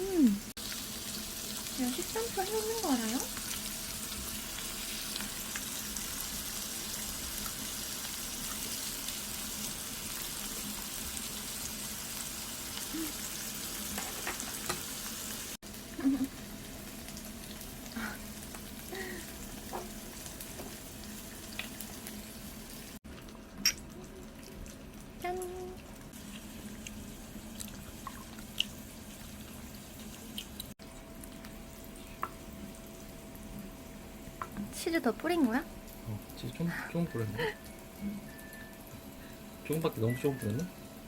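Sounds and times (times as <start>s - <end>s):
meat sizzling in a pan: 0.0s - 41.0s.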